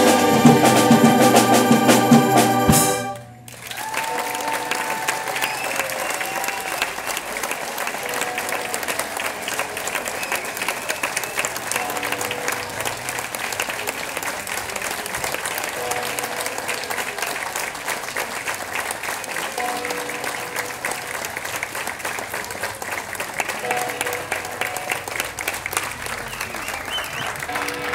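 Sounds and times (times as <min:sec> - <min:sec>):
audience applauding: 0:00.0 - 0:27.9.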